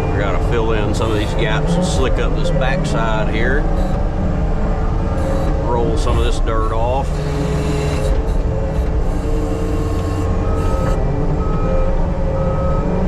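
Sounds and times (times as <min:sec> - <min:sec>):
backup alarm beeping: 0:00.0 - 0:13.0
heavy machine engine running: 0:00.0 - 0:13.0.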